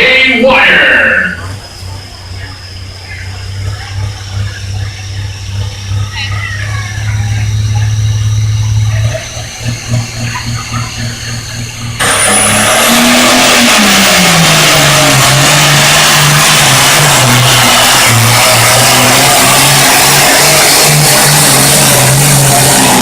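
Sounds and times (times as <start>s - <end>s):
tractor engine revving: 0.0s - 23.0s.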